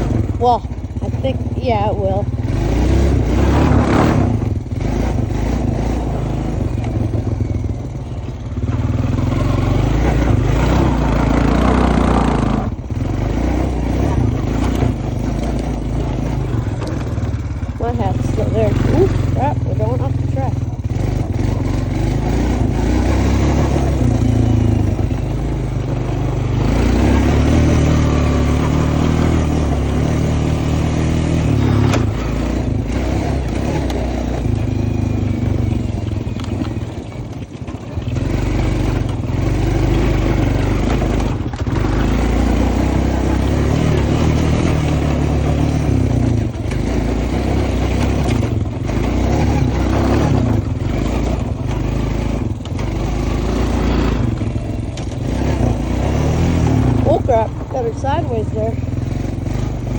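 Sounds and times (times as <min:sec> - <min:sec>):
atv engine running under load: 0:00.0 - 0:59.9.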